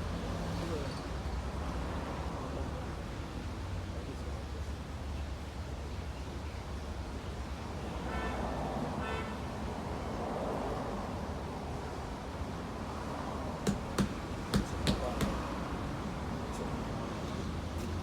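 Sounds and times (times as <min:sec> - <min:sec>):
low rumble of traffic: 0:00.0 - 0:18.0.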